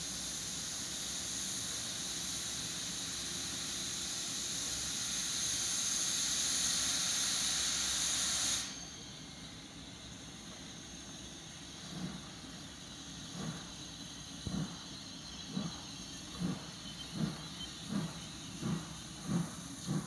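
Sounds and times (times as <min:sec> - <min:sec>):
steam locomotive hissing: 0:00.0 - 0:20.0.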